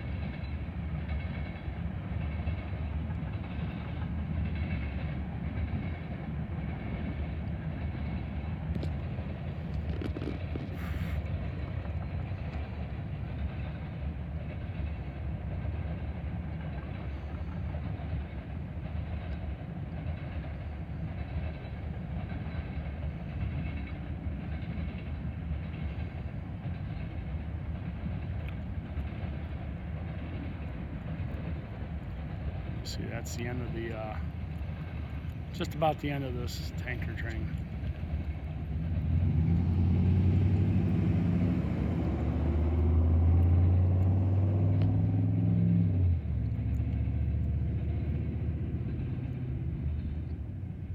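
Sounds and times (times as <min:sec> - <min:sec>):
steel wheels rumbling on rail: 0:00.0 - 0:50.9
wheels clacking over rail joints: 0:00.0 - 0:50.9.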